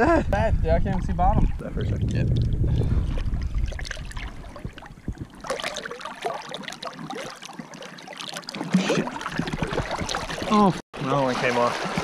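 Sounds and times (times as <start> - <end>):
water splashing and gurgling: 1.3 - 12.0.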